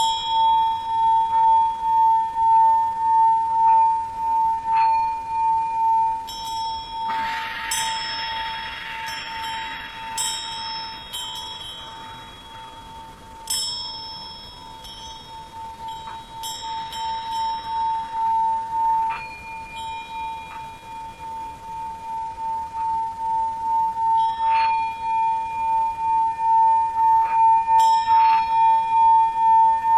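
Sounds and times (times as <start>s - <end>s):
higher bells ringing: 0.0s - 29.9s
singing bowl pulsing tone: 0.0s - 29.9s.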